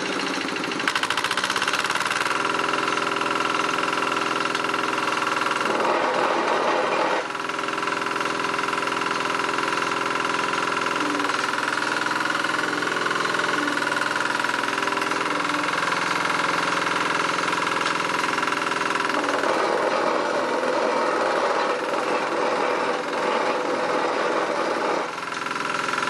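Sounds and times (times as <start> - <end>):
small diesel engine running: 0.0 - 26.0.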